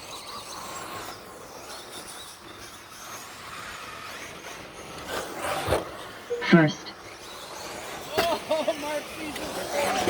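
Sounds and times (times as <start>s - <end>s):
rc truck motors and tyres: 0.0s - 6.3s, 7.0s - 10.0s.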